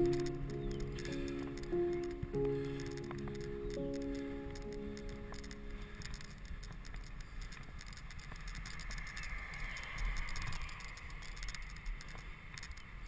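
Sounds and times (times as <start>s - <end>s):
bicycle rattling and ticking: 0.0s - 13.0s
wind rumbling on microphone: 0.0s - 13.0s.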